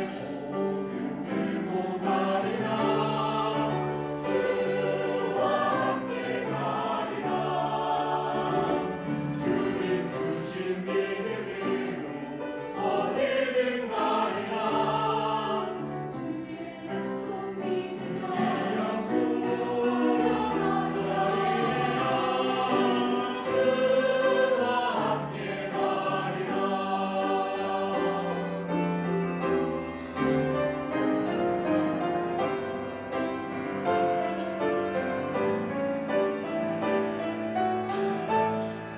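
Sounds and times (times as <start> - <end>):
choir singing a hymn: 0.0 - 38.9.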